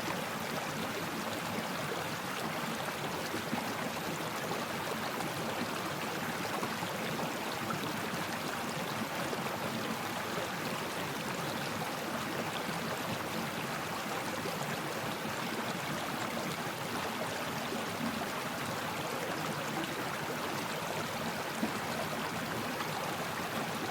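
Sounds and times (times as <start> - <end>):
stream water flowing over rocks: 0.0 - 23.9.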